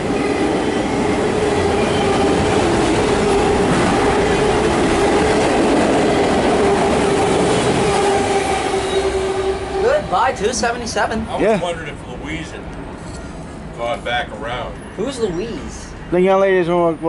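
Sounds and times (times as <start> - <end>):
train wheels rumbling on track: 0.0 - 16.1.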